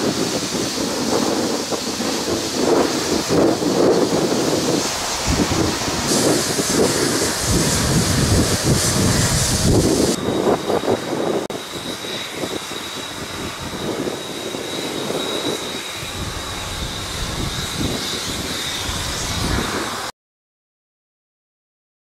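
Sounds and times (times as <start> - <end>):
faint high whine: 0.0 - 20.1
wind buffeting microphone: 0.0 - 20.1.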